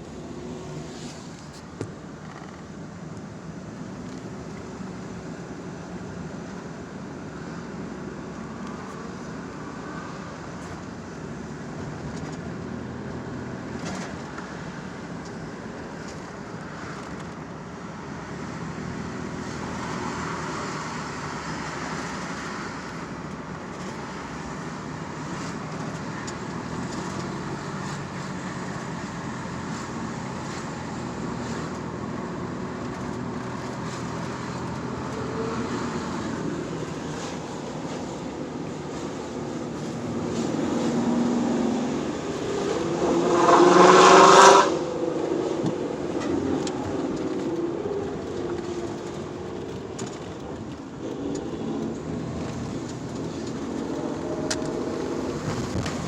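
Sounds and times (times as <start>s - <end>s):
car engines in traffic: 0.0s - 56.0s.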